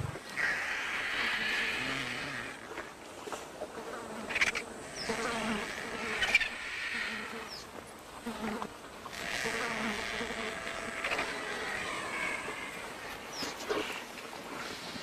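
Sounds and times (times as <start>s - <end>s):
flies buzzing: 0.1s - 14.1s.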